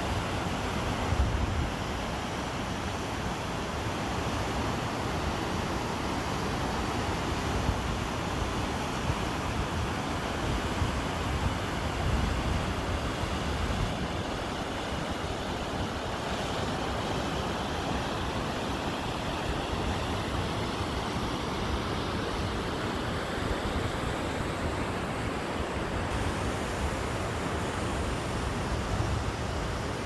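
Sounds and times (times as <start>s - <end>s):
waterfall and rapids rushing: 0.0s - 30.0s.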